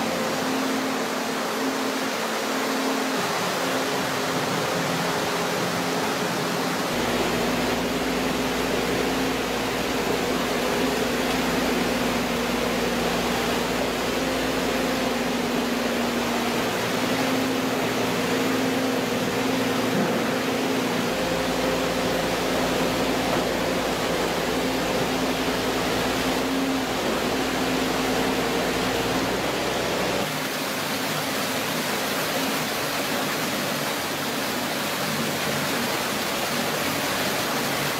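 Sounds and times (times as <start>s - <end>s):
rushing hiss of water: 0.0s - 37.9s.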